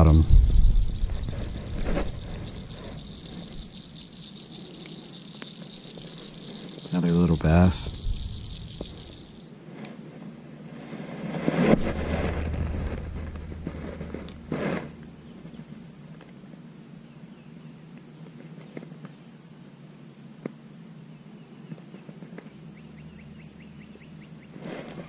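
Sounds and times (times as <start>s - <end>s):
high-pitched insect trill: 0.0s - 25.0s
rustle: 0.0s - 25.0s.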